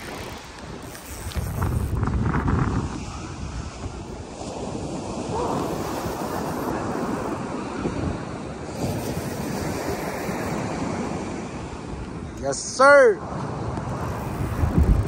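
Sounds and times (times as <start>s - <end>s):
wind buffeting microphone: 0.0s - 12.4s, 13.2s - 15.0s
ocean surf washing: 0.0s - 15.0s.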